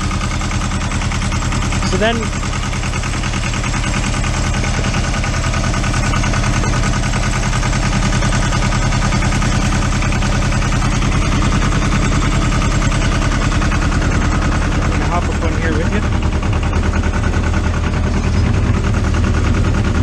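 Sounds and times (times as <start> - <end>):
diesel tractor engine chugging: 0.0 - 20.0.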